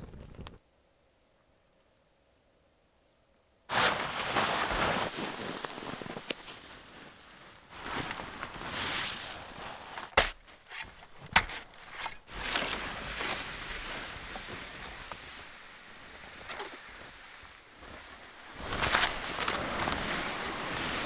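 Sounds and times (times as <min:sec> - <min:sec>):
rustling crunching handling noise: 0:03.7 - 0:21.0.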